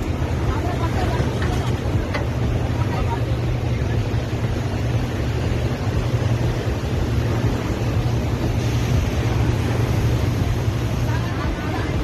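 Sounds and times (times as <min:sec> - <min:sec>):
diesel engine running under load: 0:00.0 - 0:12.0
rushing noise: 0:00.0 - 0:12.0.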